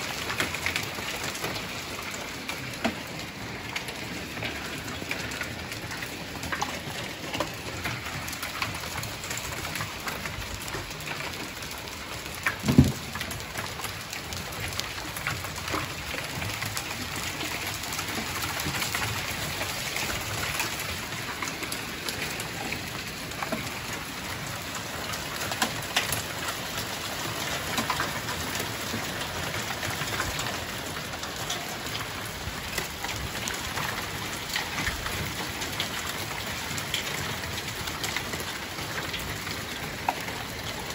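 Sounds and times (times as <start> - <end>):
hail and rain pattering: 0.0 - 40.9.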